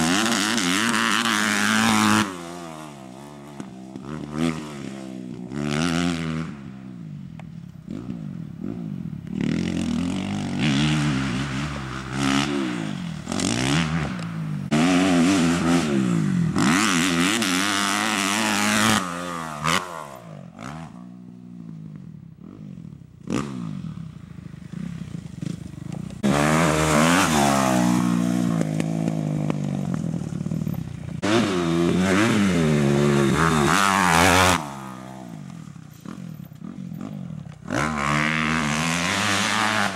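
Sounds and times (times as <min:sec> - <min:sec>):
motocross engine revving: 0:00.0 - 0:06.7, 0:07.9 - 0:21.5, 0:23.2 - 0:39.9.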